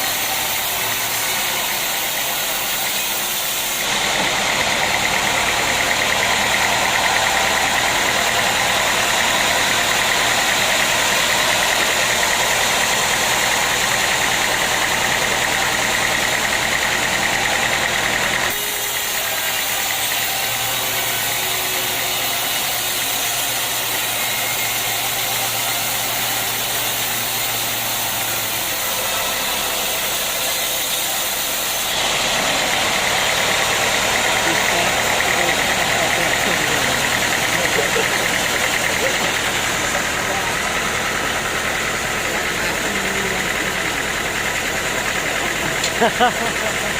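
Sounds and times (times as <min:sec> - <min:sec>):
sawmill machinery motor hum: 0:00.0 - 0:46.9.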